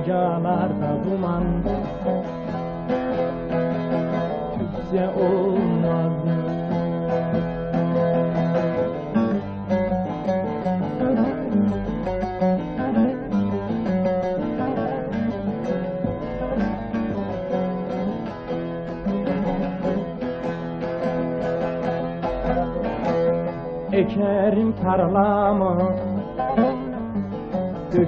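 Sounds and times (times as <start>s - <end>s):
long-necked lute plucked solo: 0.0s - 28.0s.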